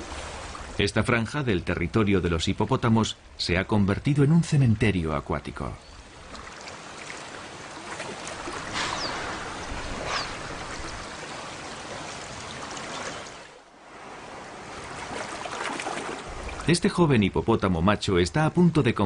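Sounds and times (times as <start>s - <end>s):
river water flowing: 0.0s - 18.7s.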